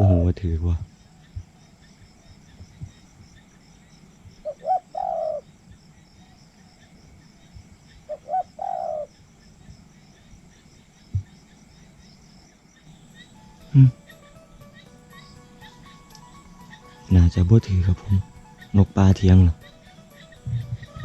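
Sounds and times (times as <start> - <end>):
dove cooing: 0.0 - 9.7, 12.9 - 21.0
insects chirring: 0.0 - 21.0.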